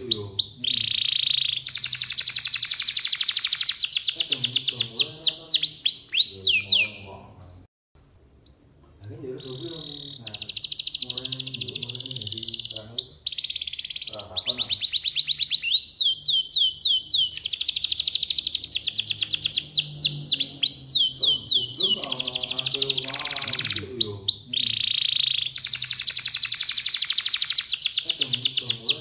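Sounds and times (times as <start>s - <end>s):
canary singing trills: 0.0s - 29.0s.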